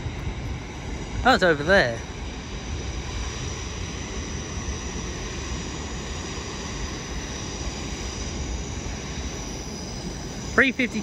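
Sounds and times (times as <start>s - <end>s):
faint high hum: 0.0s - 11.0s
low train rumble: 0.0s - 11.0s.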